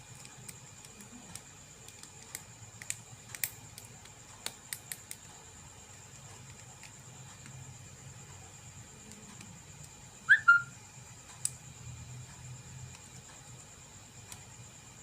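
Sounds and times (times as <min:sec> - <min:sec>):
faint hum and high whine: 0:00.0 - 0:15.0.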